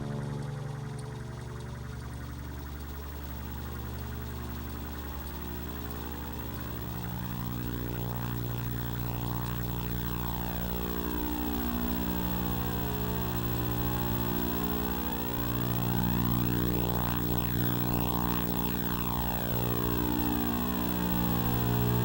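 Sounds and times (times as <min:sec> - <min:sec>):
electronic drone hum: 0:00.0 - 0:22.0.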